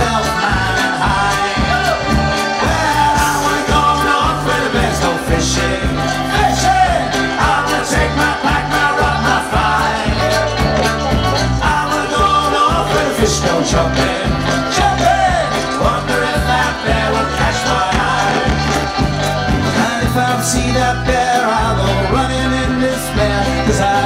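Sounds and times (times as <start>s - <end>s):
bass line: 0.0s - 24.0s
drums keeping a steady beat: 0.0s - 24.0s
folk-rock band playing: 0.0s - 24.0s.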